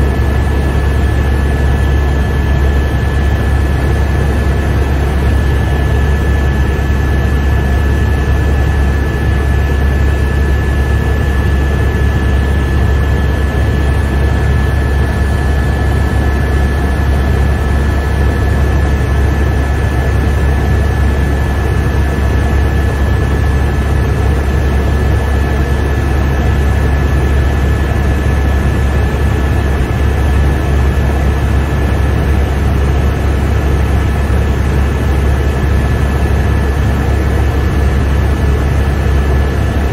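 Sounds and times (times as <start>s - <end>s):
helicopter rotor and engine drone: 0.0s - 39.9s
high turbine whine: 0.0s - 39.9s.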